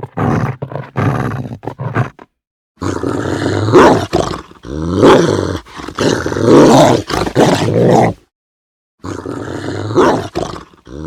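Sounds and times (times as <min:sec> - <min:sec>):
dog growling: 0:00.0 - 0:08.2, 0:09.0 - 0:11.0.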